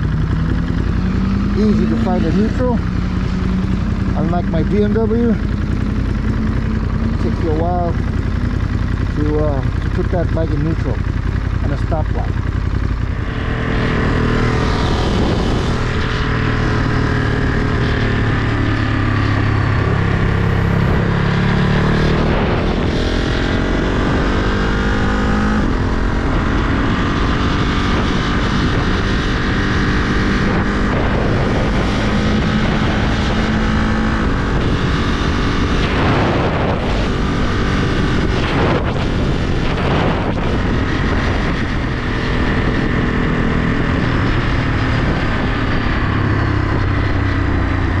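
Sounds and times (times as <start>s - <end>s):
motorcycle engine accelerating: 0.0s - 48.0s
wind noise on microphone: 0.0s - 48.0s.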